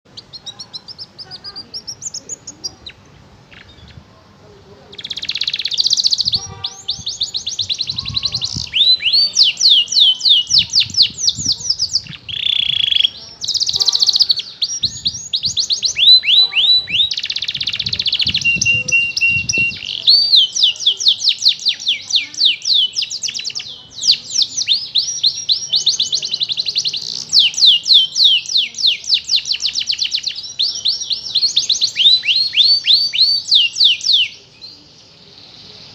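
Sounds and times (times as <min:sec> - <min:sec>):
canary chirps and trills: 0:00.1 - 0:04.1, 0:04.9 - 0:35.9.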